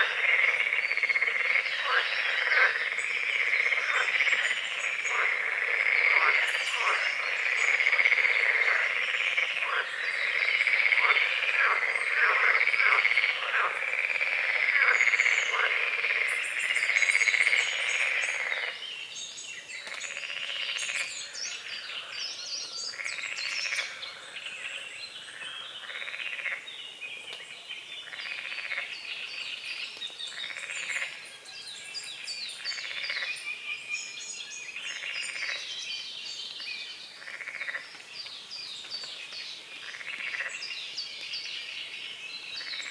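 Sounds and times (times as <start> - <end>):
single frogs croaking: 0.0 - 18.9, 19.6 - 26.7, 28.0 - 31.2, 32.2 - 33.9, 34.7 - 35.8, 36.5 - 38.0, 39.0 - 41.8
chorus of frogs croaking: 0.0 - 26.7, 28.0 - 35.9, 37.1 - 38.0, 39.2 - 42.9
songbirds singing: 0.0 - 42.9.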